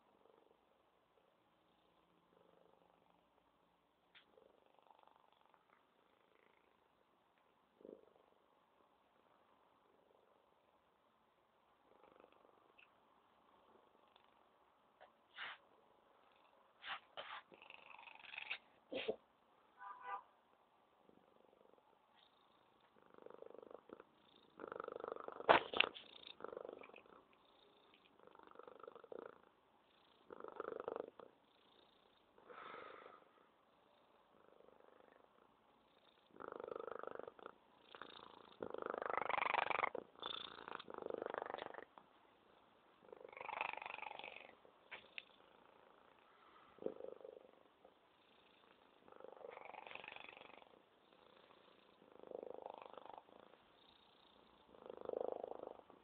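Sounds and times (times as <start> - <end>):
cat purring: 0.0 - 19.3, 20.8 - 56.0.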